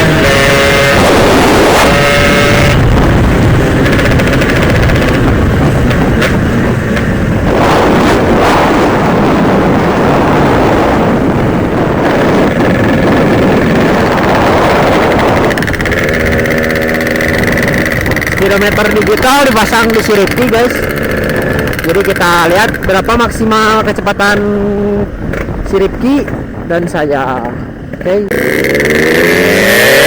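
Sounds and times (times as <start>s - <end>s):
two-stroke motorcycle engine: 0.0s - 30.0s
wind rush on microphone: 0.0s - 30.0s.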